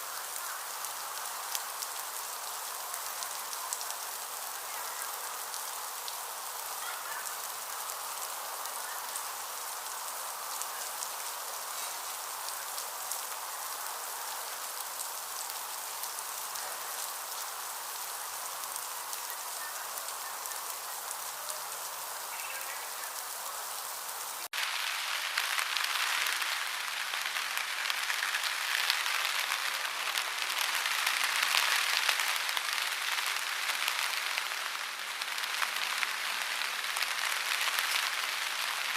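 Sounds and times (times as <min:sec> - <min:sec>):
heavy downpour: 0:00.0 - 0:38.9
rain falling: 0:00.0 - 0:38.9.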